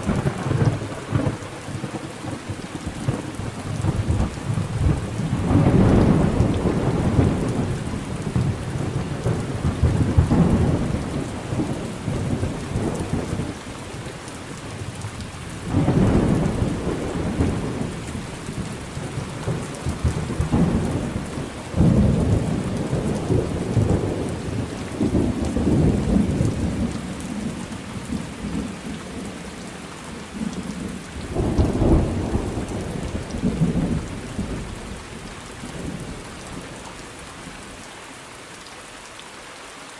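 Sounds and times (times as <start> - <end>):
rolling thunder: 0.0 - 13.7, 15.6 - 29.3, 30.3 - 35.0
steady rain: 0.0 - 39.9.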